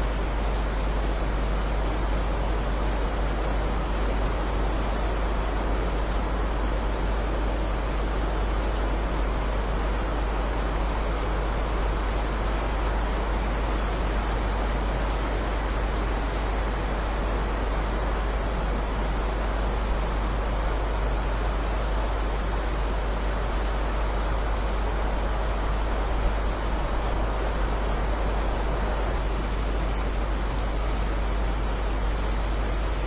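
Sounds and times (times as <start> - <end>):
heavy rain hiss: 0.0 - 33.0.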